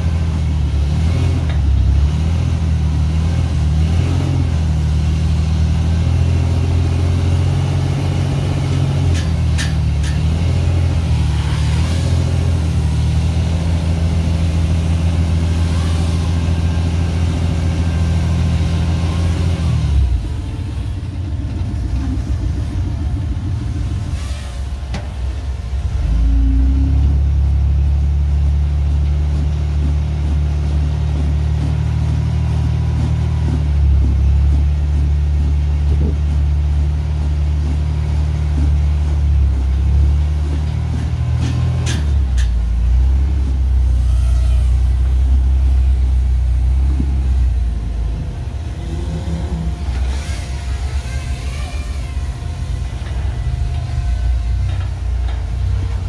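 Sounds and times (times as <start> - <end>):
engine droning under load: 0.0 - 56.0.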